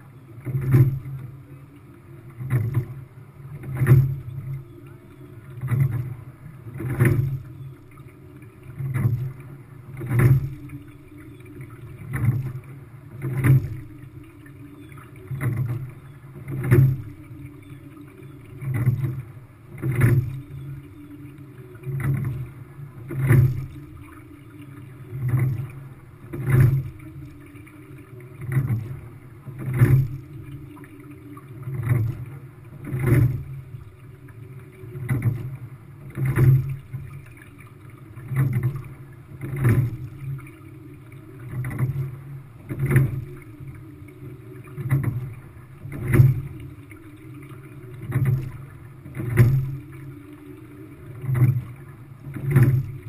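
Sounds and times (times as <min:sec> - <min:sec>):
water rumbling along hull: 0:00.0 - 0:53.0.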